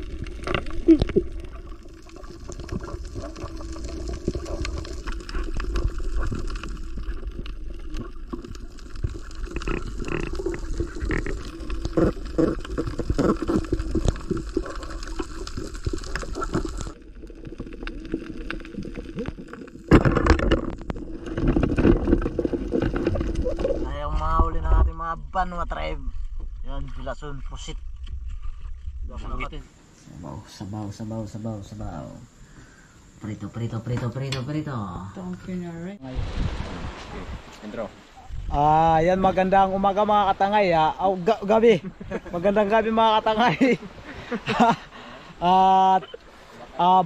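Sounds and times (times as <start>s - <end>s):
underwater gurgling and rushing: 0.0s - 25.4s, 26.1s - 29.2s, 36.0s - 45.4s.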